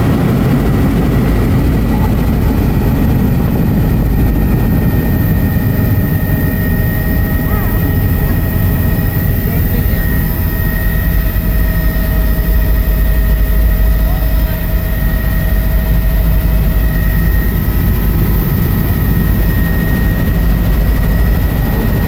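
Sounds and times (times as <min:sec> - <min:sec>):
helicopter rotor and engine rumble: 0:00.0 - 0:22.0
high whine: 0:00.0 - 0:22.0.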